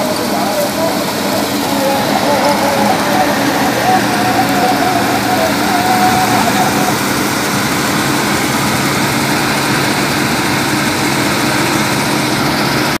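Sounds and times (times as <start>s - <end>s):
combine harvester engine hum: 0.0s - 13.0s
threshing machinery noise: 0.0s - 13.0s.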